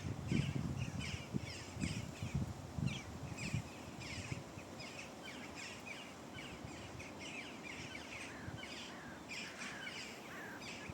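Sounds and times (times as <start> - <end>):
small birds chirping: 0.2 - 10.9.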